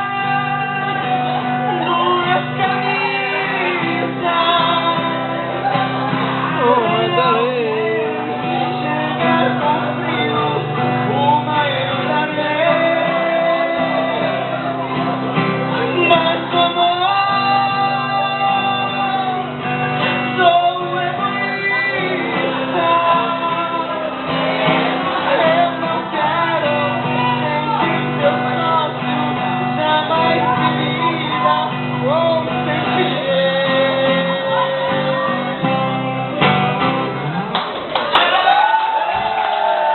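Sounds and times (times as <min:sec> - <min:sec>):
people shouting and singing along: 0:00.0 - 0:37.5, 0:38.1 - 0:39.9
song with singing and guitar: 0:00.0 - 0:39.9.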